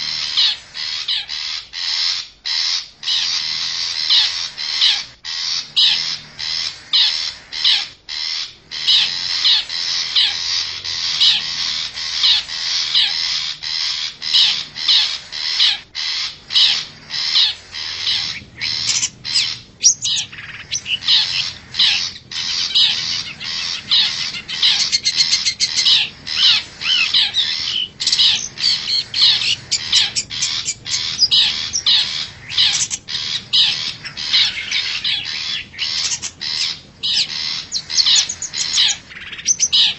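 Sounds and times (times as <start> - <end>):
shrike calling: 0.0 - 39.9.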